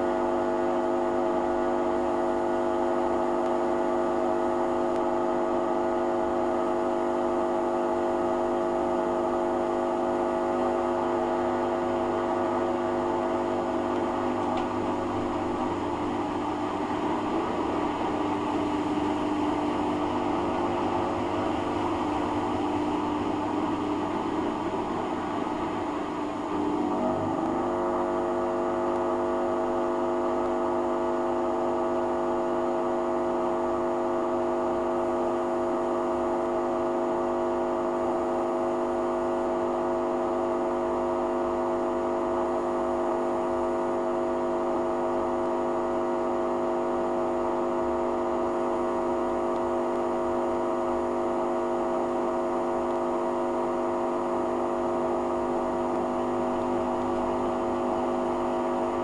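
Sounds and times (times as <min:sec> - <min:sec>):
washing machine motor hum: 0:00.0 - 0:59.0.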